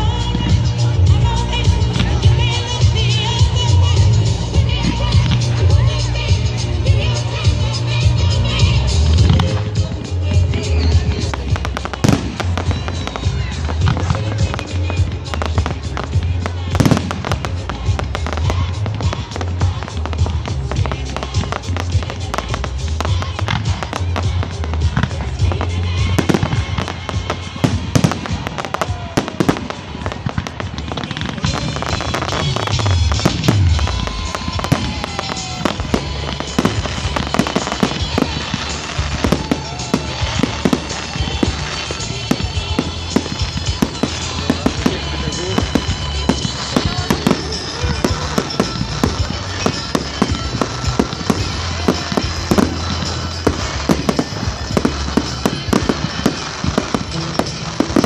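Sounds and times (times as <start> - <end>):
fireworks bangs and crackles: 0.0 - 58.0
music playing: 0.0 - 58.0.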